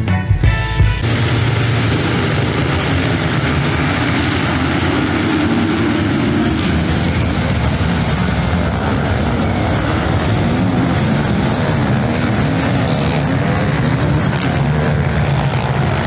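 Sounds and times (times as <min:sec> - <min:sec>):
motocross bikes revving: 0:01.0 - 0:16.0.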